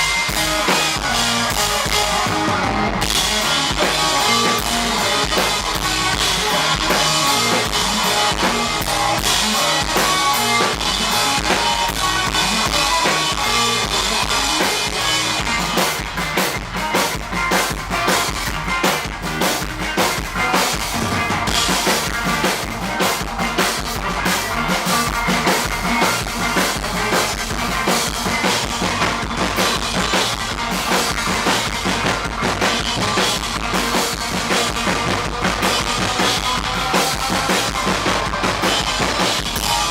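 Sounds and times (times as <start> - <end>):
drum kit hits: 0.0 - 39.9
live rock band playing: 0.0 - 39.9.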